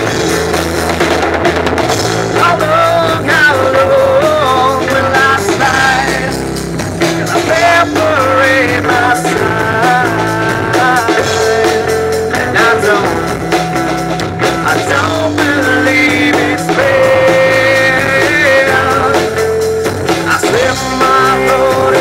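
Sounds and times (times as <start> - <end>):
rock band playing: 0.0 - 22.0
man singing: 2.3 - 13.7, 14.4 - 22.0.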